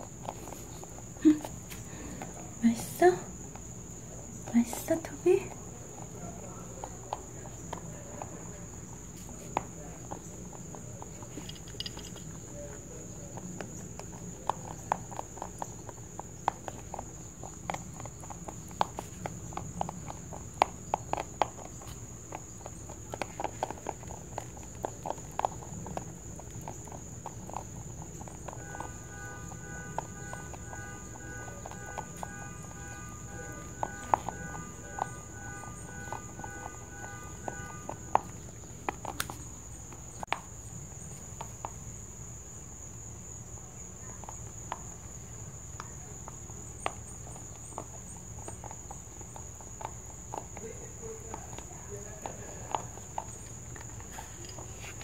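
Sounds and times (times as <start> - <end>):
rabbit crunching pellets: 0.0 - 55.0.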